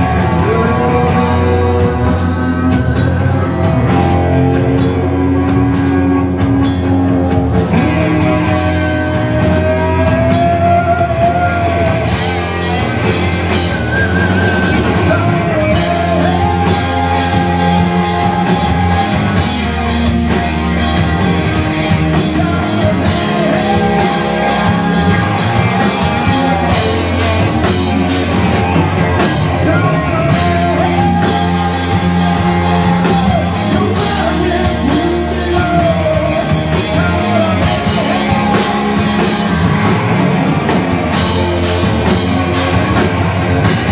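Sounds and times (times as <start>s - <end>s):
man singing: 0.0s - 40.0s
rock band playing live: 0.0s - 43.9s.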